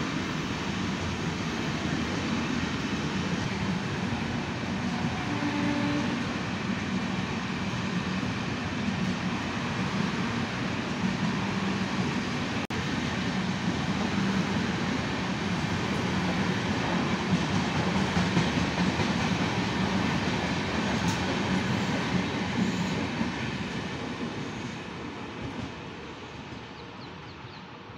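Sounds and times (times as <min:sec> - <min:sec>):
train wheels rumbling on rails: 0:00.0 - 0:27.1.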